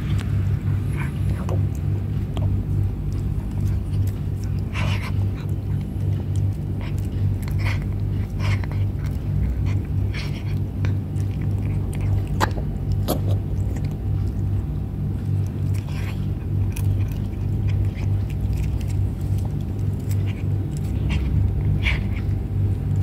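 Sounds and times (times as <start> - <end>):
cat chewing food: 0.0 - 23.0
steady low hum: 0.0 - 23.0.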